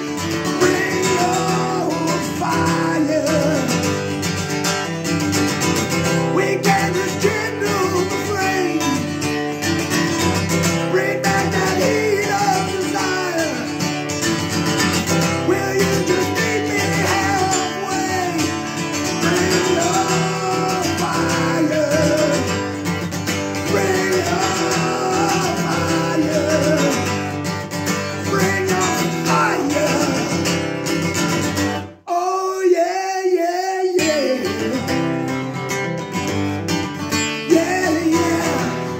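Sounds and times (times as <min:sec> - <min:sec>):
man singing: 0:00.0 - 0:04.2, 0:05.6 - 0:35.8, 0:37.1 - 0:38.9
acoustic guitar strumming: 0:00.0 - 0:32.1, 0:34.0 - 0:38.9.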